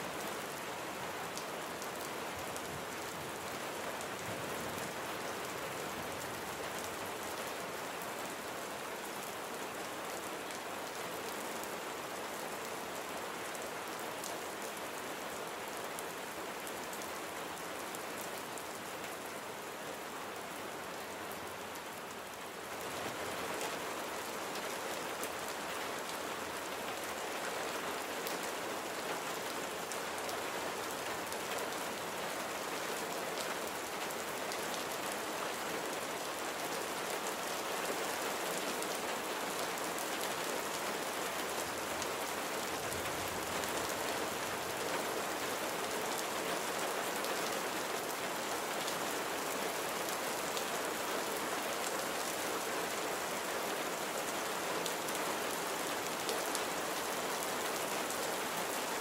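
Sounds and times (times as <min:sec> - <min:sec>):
rain pattering on surfaces: 0:00.1 - 0:59.0.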